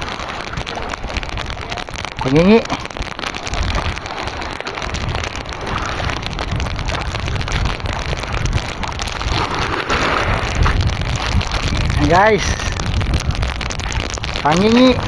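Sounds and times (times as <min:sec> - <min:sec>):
choppy sea: 0:00.0 - 0:15.0
wind: 0:00.0 - 0:15.0.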